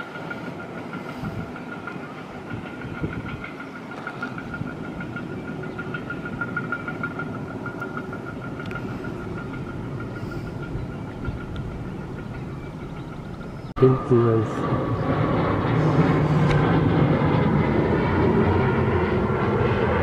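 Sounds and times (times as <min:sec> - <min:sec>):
electric train rumbling on track: 0:00.0 - 0:20.0
steady high-pitched tone: 0:00.0 - 0:20.0.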